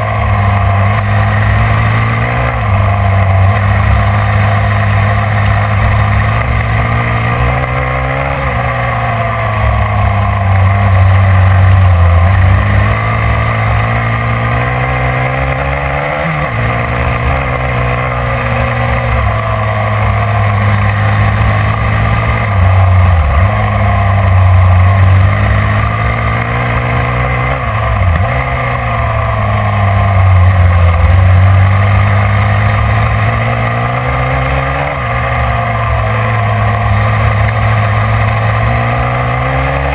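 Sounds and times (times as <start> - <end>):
racing engine running hard: 0.0 - 39.9.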